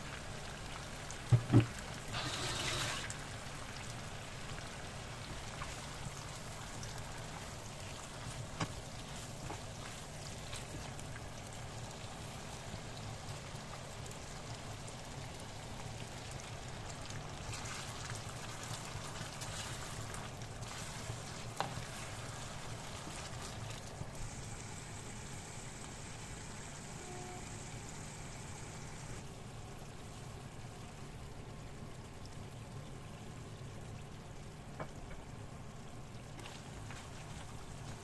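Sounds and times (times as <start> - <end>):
chicken sizzling in a frying pan: 0.0 - 31.7, 34.4 - 38.0.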